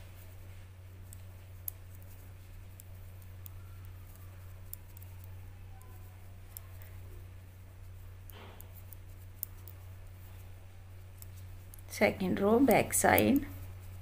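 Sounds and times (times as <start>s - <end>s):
steady low hum: 0.0s - 14.0s
knitting needles clicking: 1.0s - 7.2s, 7.8s - 14.0s.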